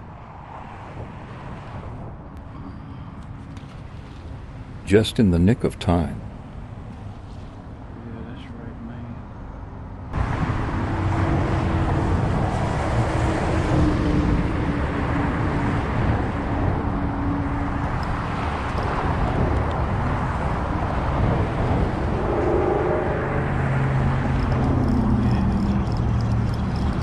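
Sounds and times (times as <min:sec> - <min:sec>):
passing road traffic: 0:00.0 - 0:27.0
faint engine hum: 0:02.4 - 0:27.0.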